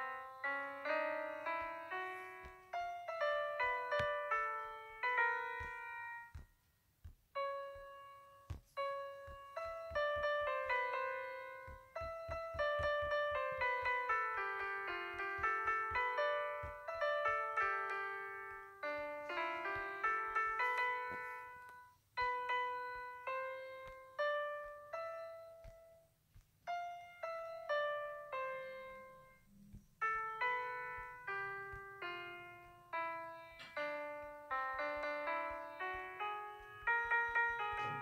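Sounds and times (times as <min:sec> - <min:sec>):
piano music: 0:00.0 - 0:06.6, 0:07.3 - 0:38.0.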